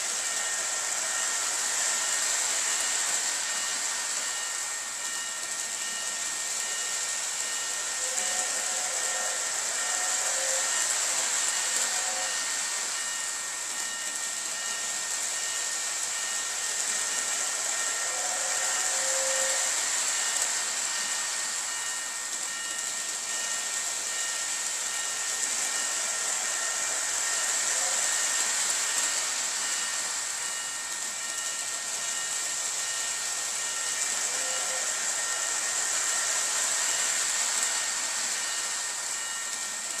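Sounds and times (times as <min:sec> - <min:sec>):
model train hissing on track: 0:00.0 - 0:40.0
faint thin high tones: 0:02.8 - 0:40.0.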